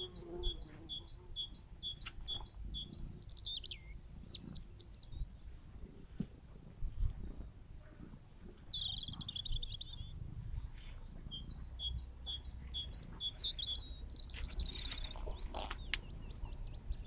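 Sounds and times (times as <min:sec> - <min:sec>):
small songbird singing: 0:00.0 - 0:05.6, 0:07.4 - 0:17.0.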